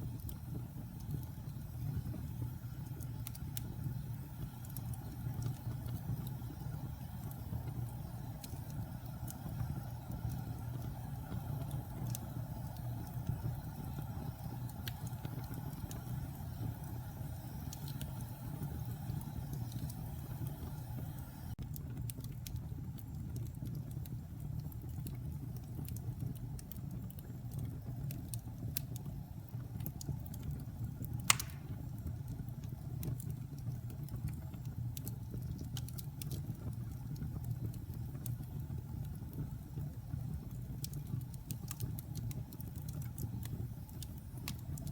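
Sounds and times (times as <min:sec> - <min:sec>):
fire crackling and popping: 0:00.0 - 0:44.9
fire rumbling in fireplace: 0:00.0 - 0:44.9.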